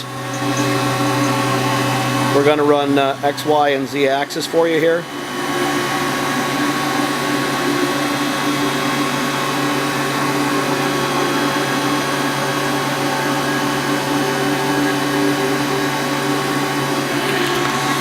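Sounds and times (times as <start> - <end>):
machine hum with held tones: 0.0 - 18.0.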